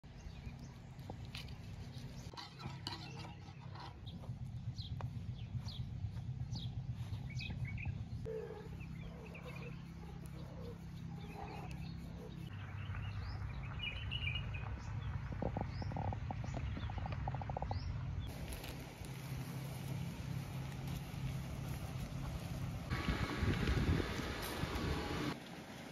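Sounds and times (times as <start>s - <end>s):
small birds chirping: 0.0s - 23.0s
low background hum: 0.1s - 25.4s.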